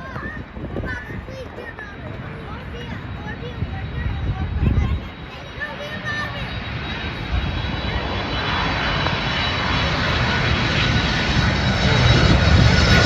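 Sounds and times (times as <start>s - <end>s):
jet passing low overhead: 0.0s - 13.0s.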